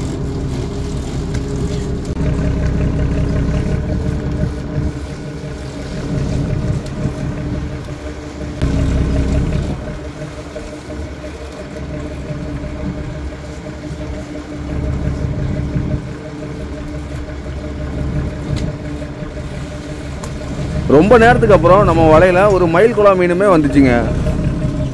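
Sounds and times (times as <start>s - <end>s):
boat engine running at low revs: 0.0s - 24.9s.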